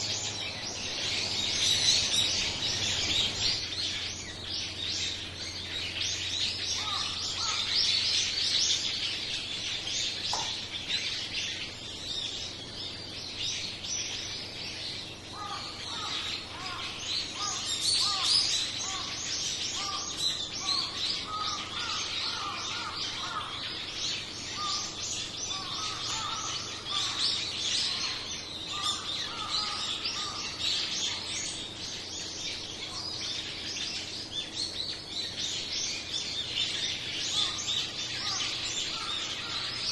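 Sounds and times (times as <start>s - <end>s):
flock of songbirds chirping: 0.0s - 39.9s.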